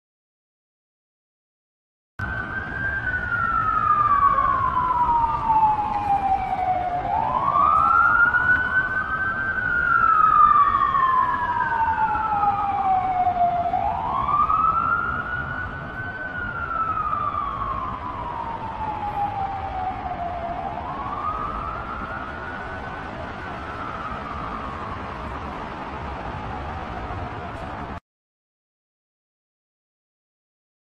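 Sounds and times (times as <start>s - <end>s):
siren wailing: 2.2s - 28.0s.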